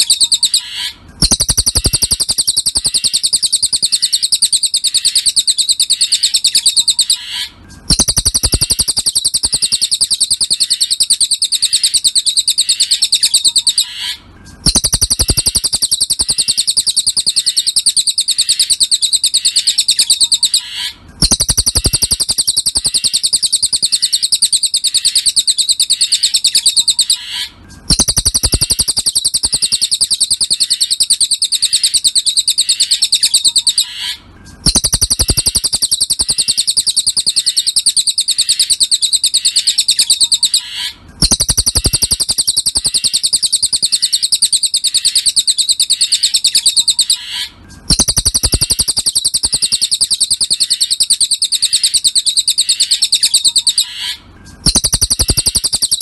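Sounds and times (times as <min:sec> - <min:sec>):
bird chattering trill: 0:00.0 - 0:56.0.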